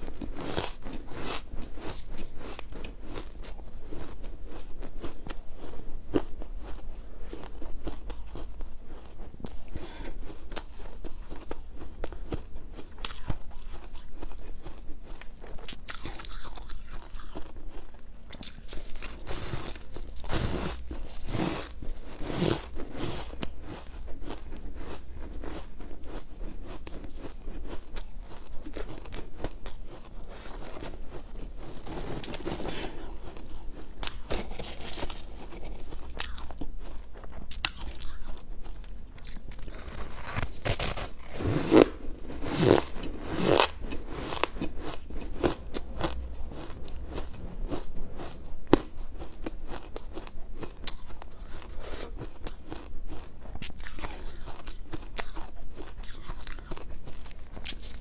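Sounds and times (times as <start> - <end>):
person chewing ice: 0.0 - 58.0.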